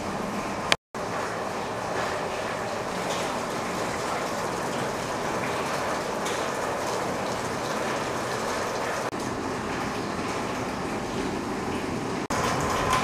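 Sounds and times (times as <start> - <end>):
water drumming on metal roofing: 0.0 - 13.0.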